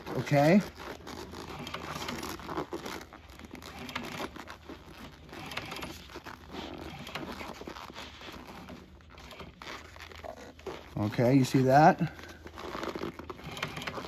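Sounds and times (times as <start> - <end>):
fabric and foam rustling: 0.0 - 14.0.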